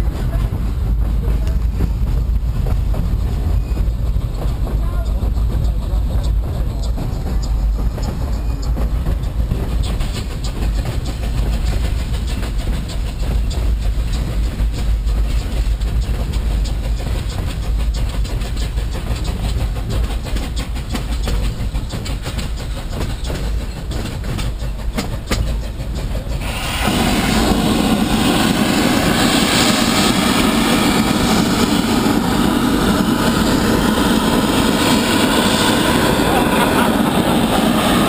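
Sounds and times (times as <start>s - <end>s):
train rumbling: 0.0s - 38.0s
wheels clicking over rail joints: 0.0s - 38.0s.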